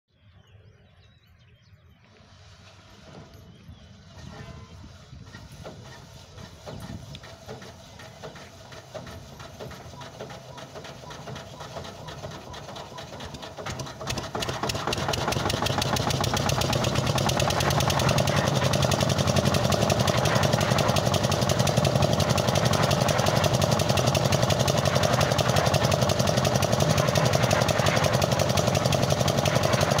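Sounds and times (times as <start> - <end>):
small engine starting and running: 2.5 - 30.0.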